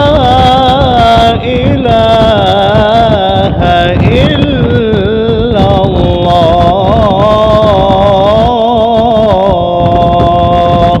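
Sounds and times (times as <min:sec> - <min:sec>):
low rumble: 0:00.0 - 0:11.0
man singing unaccompanied: 0:00.0 - 0:11.0.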